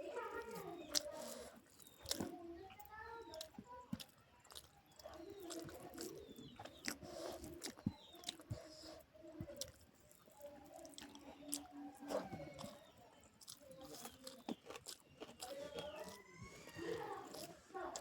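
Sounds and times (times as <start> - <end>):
person chewing food: 0.1 - 18.0.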